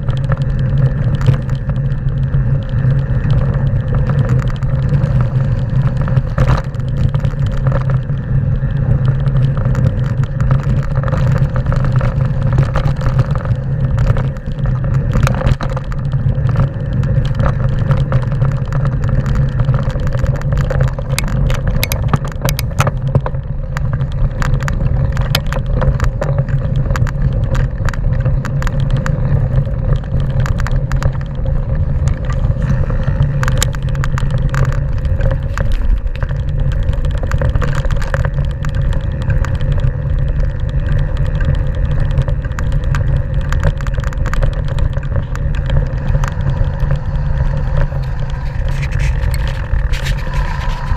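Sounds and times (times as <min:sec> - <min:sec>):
bike tyres rattling over stones: 0:00.0 - 0:50.9
wind rumble on microphone: 0:00.0 - 0:50.9.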